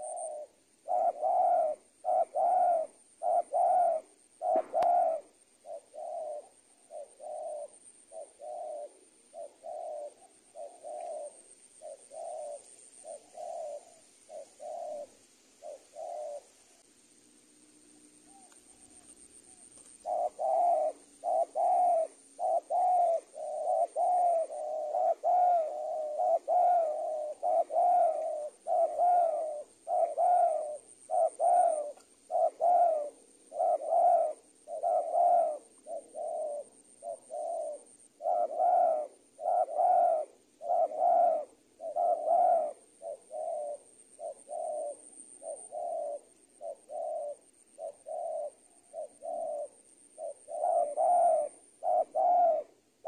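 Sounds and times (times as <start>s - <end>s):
dove cooing: 0.0s - 16.9s, 18.0s - 53.0s.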